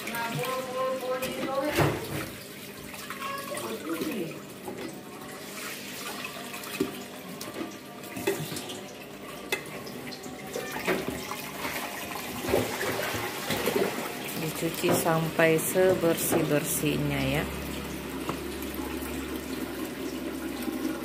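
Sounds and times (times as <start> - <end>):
tap water running into metal pot: 0.0 - 21.0.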